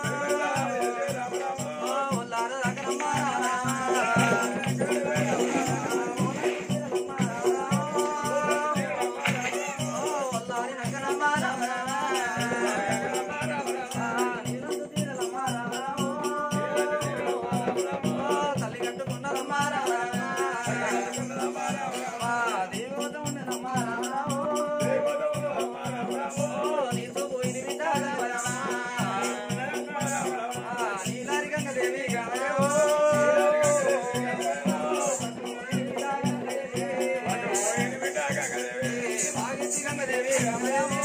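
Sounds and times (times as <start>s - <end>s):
jingling percussion beat: 0.0s - 41.0s
man singing: 0.0s - 41.0s.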